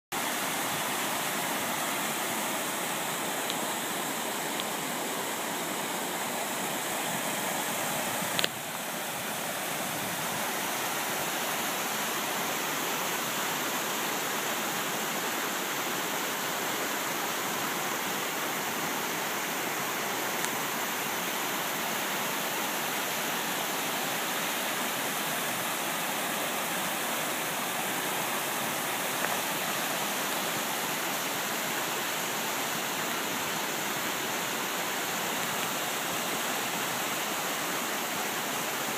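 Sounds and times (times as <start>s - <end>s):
water rushing: 0.1s - 38.9s.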